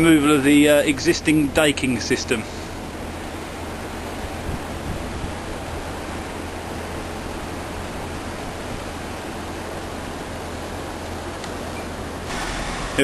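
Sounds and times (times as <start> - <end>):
low hum: 0.0 - 13.0
steady rushing noise: 0.0 - 13.0.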